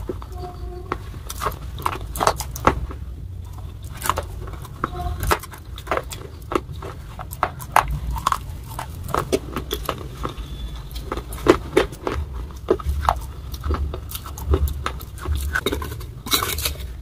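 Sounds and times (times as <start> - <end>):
chewing crunchy clay: 0.0 - 17.0
low steady rumble: 0.0 - 17.0.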